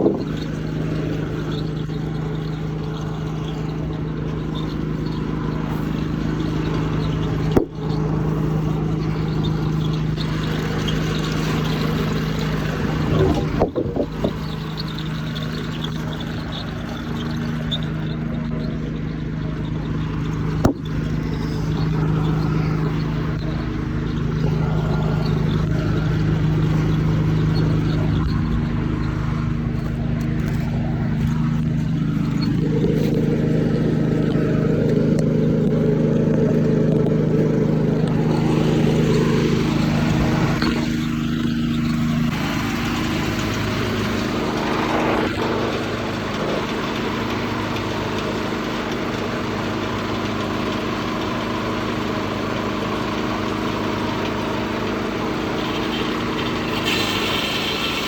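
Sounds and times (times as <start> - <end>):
heavier mechanical sound: 0.0 - 58.0
muffled diesel engine running: 0.0 - 58.0.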